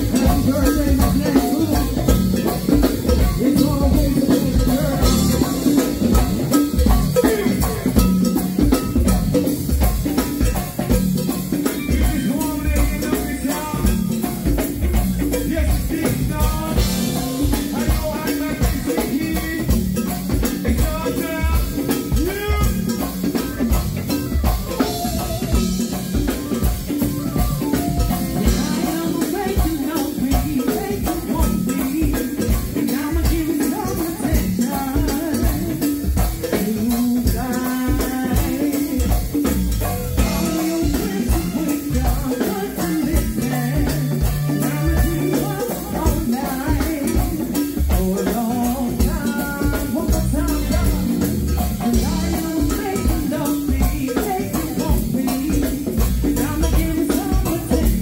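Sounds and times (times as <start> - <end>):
people singing: 0.0 - 9.0, 11.2 - 58.0
bass guitar: 0.0 - 58.0
drum kit and hand percussion: 0.0 - 58.0.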